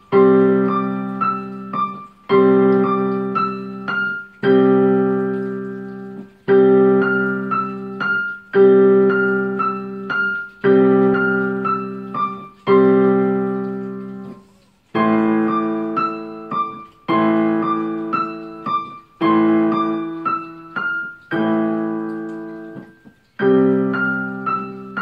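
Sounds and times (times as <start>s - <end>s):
gentle digital piano piece: 0.0s - 25.0s.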